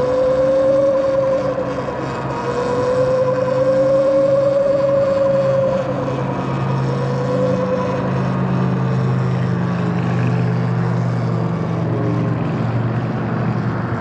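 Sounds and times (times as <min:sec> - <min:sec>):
motor whine: 0:00.0 - 0:14.0
road noise: 0:00.0 - 0:14.0.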